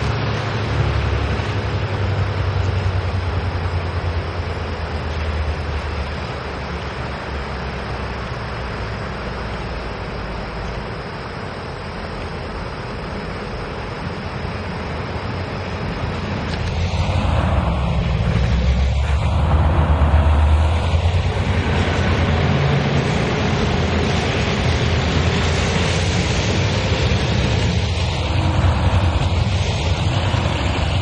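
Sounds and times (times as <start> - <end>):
diesel locomotive engine hum: 0.0 - 31.0
rail noise: 0.0 - 31.0.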